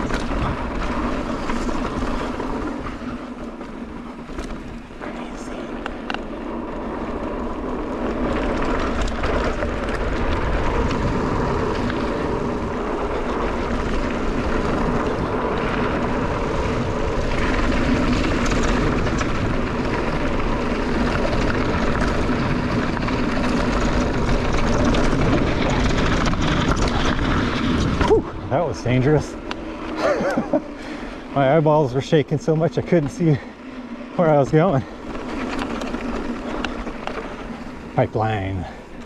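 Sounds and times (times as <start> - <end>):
bike clicks and rattles: 0.0 - 39.0
bike tyres rumbling on dirt: 0.0 - 39.0.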